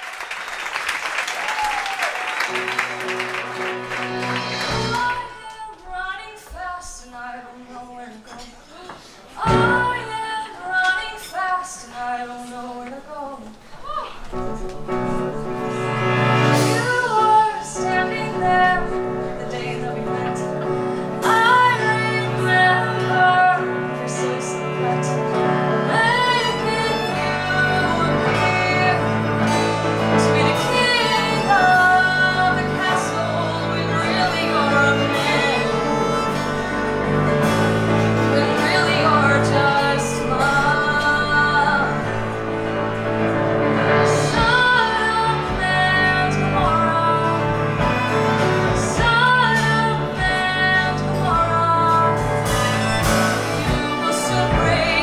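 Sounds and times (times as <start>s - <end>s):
live band accompaniment: 0.0s - 55.0s
woman singing into microphone: 4.6s - 14.6s, 16.5s - 43.0s, 43.6s - 55.0s.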